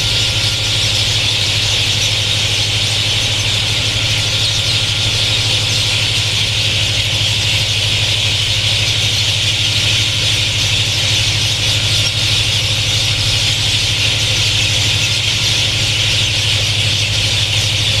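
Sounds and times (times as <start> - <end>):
chorus of many birds: 0.0 - 18.0
steady low hum: 0.0 - 18.0.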